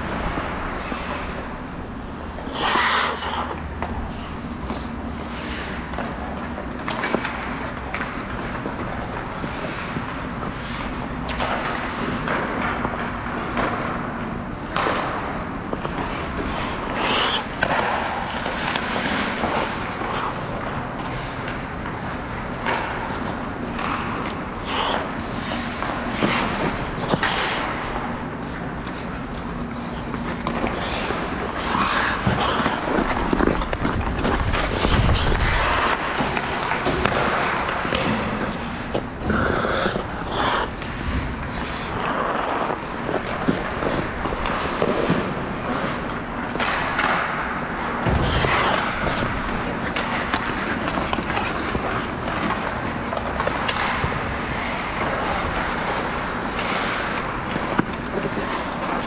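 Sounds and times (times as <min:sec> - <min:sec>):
hockey sticks and puck clacking: 0:00.0 - 0:59.0
skate blades scraping ice: 0:00.0 - 0:59.0.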